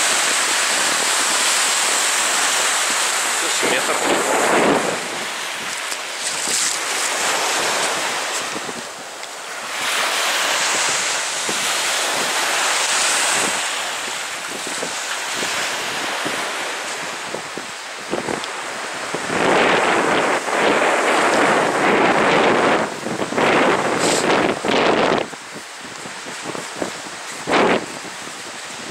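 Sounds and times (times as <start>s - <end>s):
waves washing onto beach: 0.0s - 28.9s
wind buffeting microphone: 0.0s - 28.9s.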